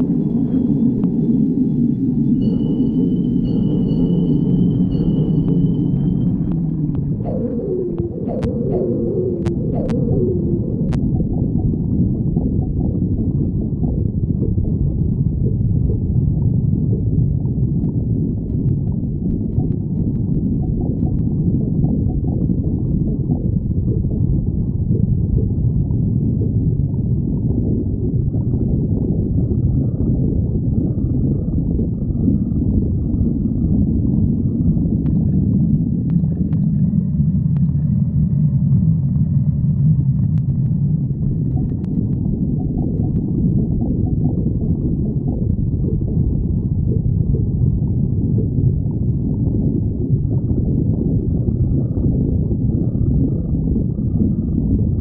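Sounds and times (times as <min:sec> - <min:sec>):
stomach growling: 0:04.9 - 0:55.0.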